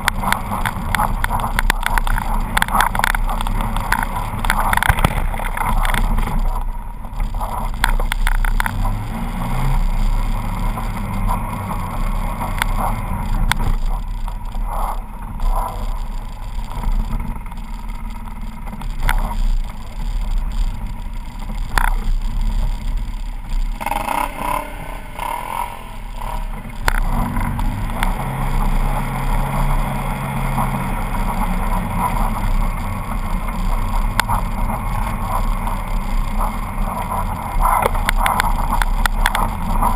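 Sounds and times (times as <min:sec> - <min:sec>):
wind noise: 0:00.0 - 0:24.0, 0:24.8 - 0:39.9
vehicle engine running: 0:00.0 - 0:39.9.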